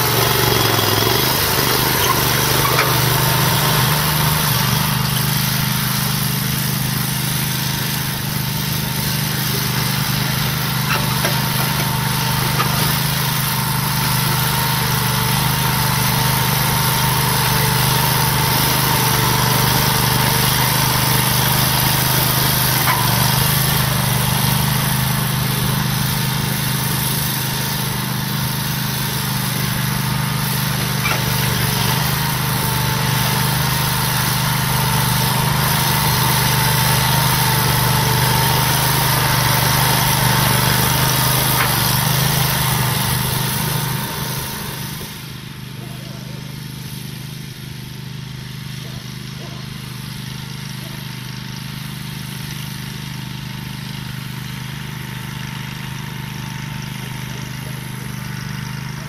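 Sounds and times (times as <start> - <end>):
garden tractor engine under load: 0.0 - 59.0.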